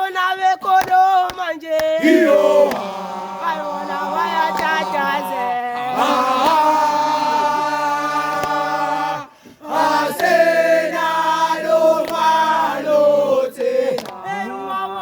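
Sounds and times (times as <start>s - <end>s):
group singing a cappella: 0.0s - 15.0s.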